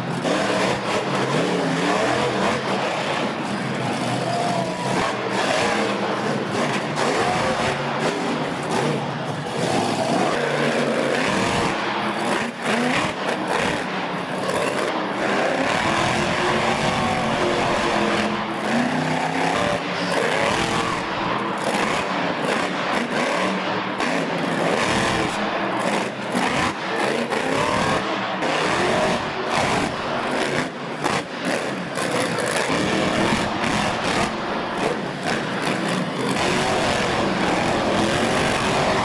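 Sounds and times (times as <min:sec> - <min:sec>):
monster truck engines revving: 0:00.0 - 0:39.0.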